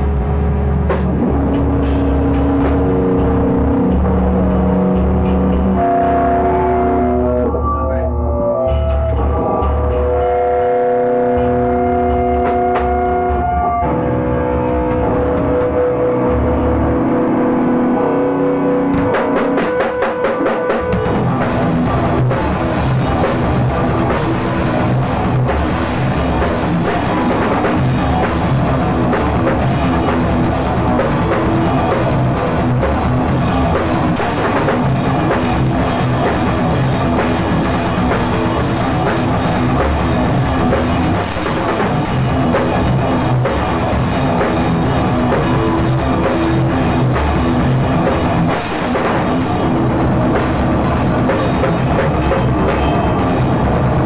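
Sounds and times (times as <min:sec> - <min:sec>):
drum kit kick and cymbals: 0:00.0 - 0:06.0, 0:11.4 - 0:13.6, 0:18.9 - 0:54.0
electric guitars: 0:00.0 - 0:54.0
metal band playing loud: 0:00.0 - 0:54.0.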